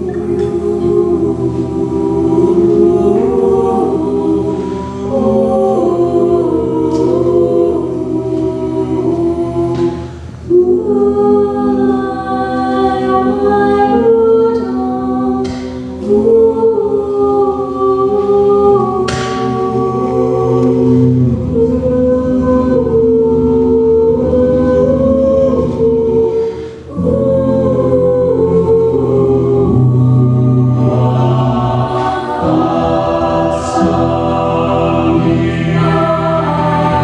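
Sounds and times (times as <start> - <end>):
vocal group singing chords: 0.0 - 37.0.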